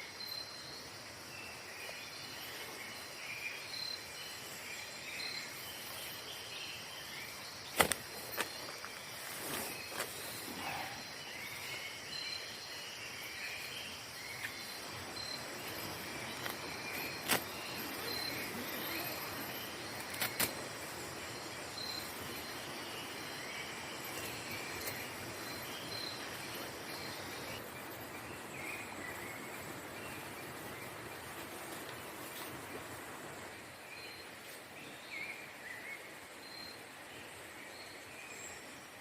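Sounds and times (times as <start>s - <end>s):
background hum of insect calls: 0.0s - 39.0s
insects chirping: 0.0s - 39.0s.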